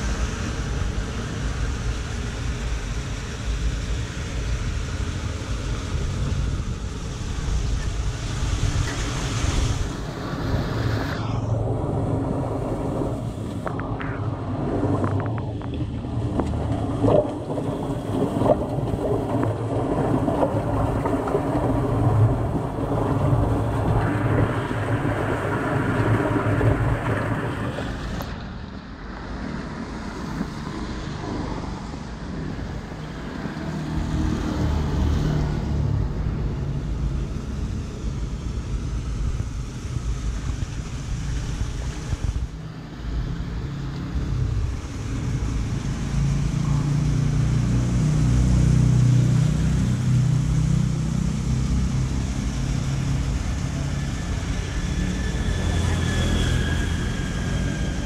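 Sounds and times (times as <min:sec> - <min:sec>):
floodwater rushing through drain: 0:00.0 - 0:58.0.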